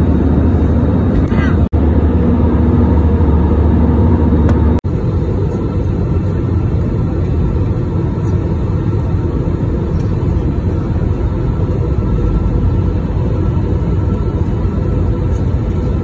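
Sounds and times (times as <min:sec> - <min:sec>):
jet airliner cabin roar: 0:00.0 - 0:16.0.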